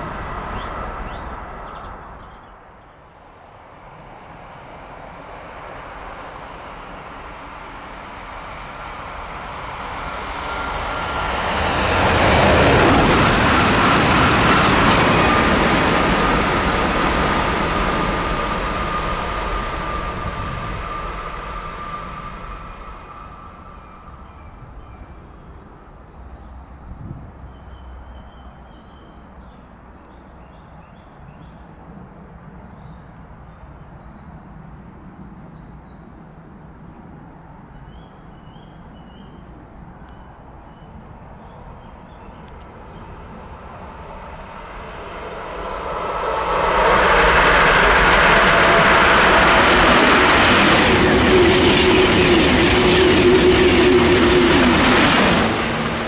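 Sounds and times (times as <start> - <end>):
train passing at speed: 0.0 - 56.0.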